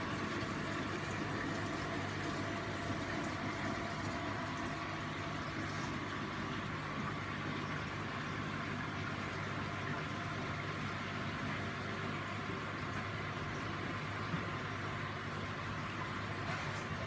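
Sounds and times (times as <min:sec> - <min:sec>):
aquarium pumps humming: 0:00.0 - 0:17.0
running water: 0:00.0 - 0:17.0.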